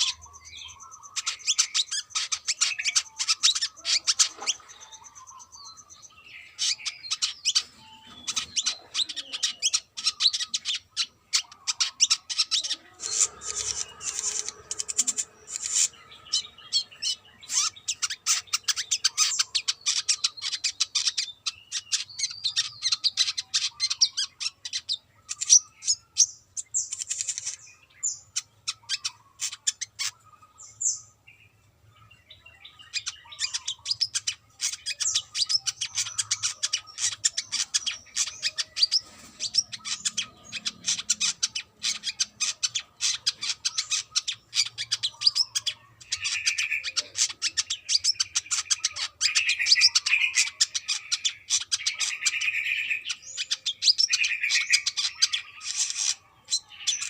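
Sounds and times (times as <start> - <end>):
sunbird singing: 0.0 - 57.0.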